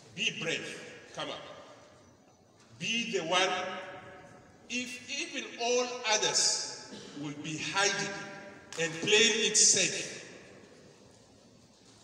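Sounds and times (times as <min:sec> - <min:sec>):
man's amplified voice echo: 0:00.0 - 0:02.0, 0:02.6 - 0:10.7.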